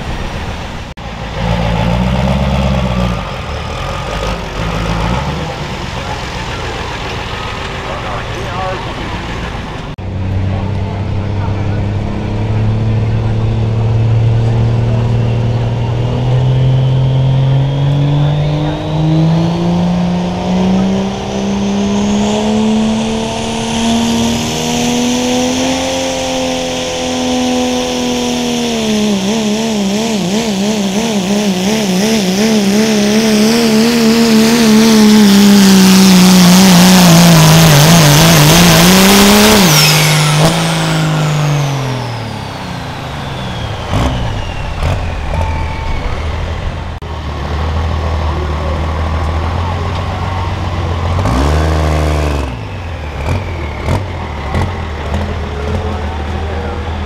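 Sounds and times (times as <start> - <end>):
diesel truck engine revving: 0.0 - 57.0
high turbo whine: 0.0 - 57.0.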